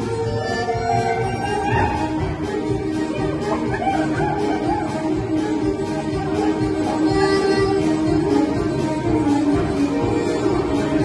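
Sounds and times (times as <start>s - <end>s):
irish traditional dance music: 0.0s - 11.0s.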